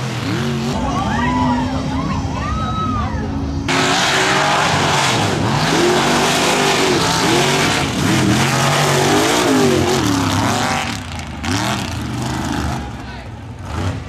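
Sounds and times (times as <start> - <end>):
truck engine revving hard: 0.0 - 1.6, 3.6 - 14.0.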